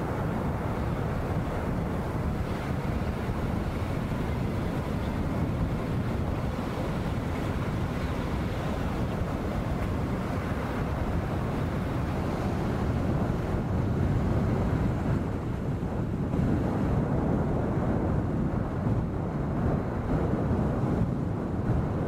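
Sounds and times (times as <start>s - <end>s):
strong gusty wind: 0.0s - 22.0s.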